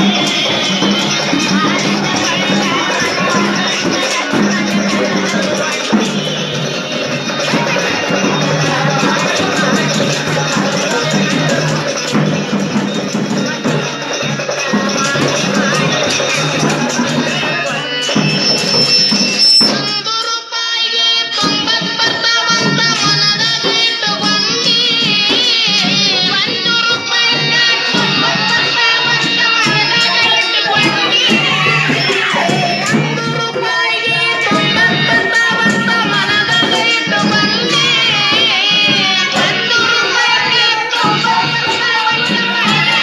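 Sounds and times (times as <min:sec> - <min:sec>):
hand drum beat: 0:00.0 - 0:20.0, 0:21.4 - 0:43.0
wavering vibrato melody: 0:00.0 - 0:20.0, 0:22.0 - 0:43.0
tambourine-like beat: 0:00.0 - 0:20.1, 0:21.3 - 0:43.0.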